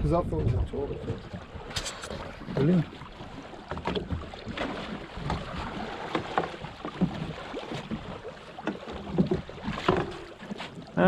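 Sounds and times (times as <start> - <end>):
wind and water washing: 0.0 - 11.0.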